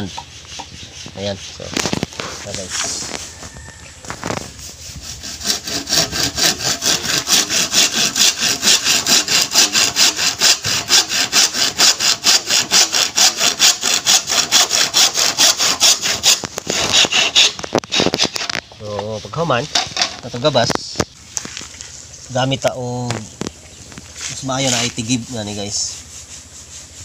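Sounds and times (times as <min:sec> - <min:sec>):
handsaw cutting bamboo: 0:00.0 - 0:20.7, 0:24.2 - 0:27.0.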